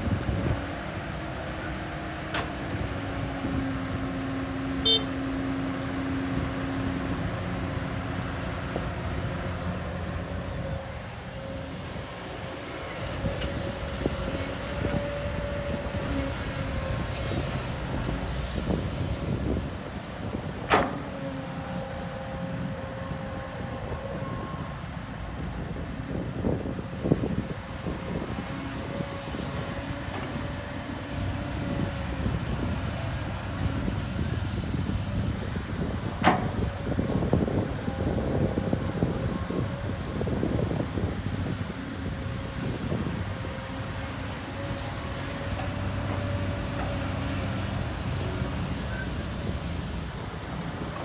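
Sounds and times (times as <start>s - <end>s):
heavy machinery diesel engines: 0.0s - 51.0s.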